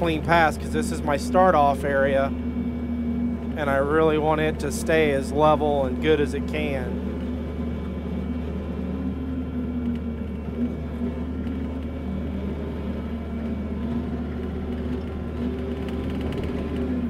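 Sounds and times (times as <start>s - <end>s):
loader diesel engine and hydraulics: 0.0s - 17.0s.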